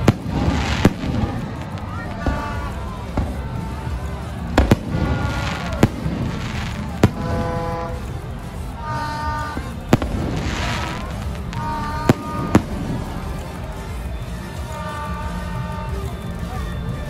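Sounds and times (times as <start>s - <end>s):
fireworks bangs: 0.0s - 16.4s.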